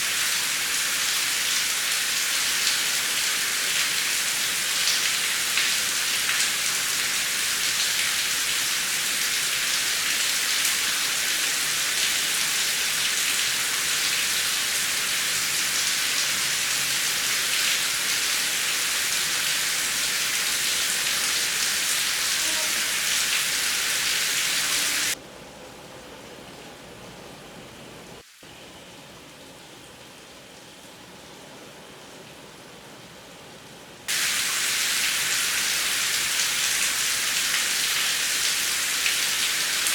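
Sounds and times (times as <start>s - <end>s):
heavy rain: 0.0s - 32.6s, 34.1s - 39.9s.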